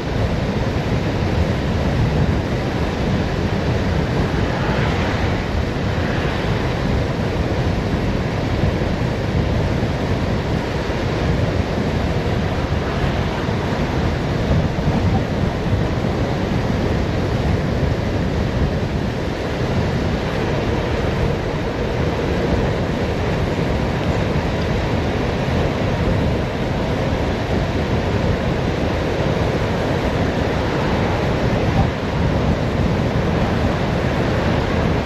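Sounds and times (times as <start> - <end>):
wind roaring over microphone: 0.0 - 35.0.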